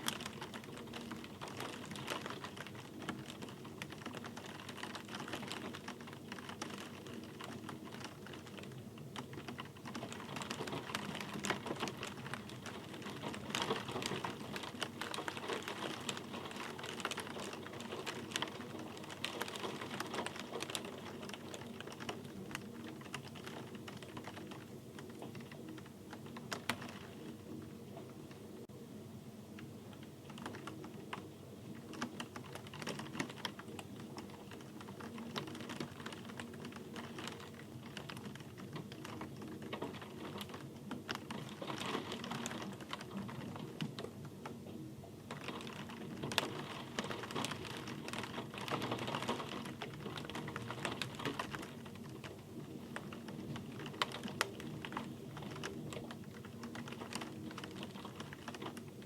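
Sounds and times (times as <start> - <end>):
raindrops tapping on hard surface: 0.0 - 27.2, 29.6 - 44.6, 45.2 - 59.0.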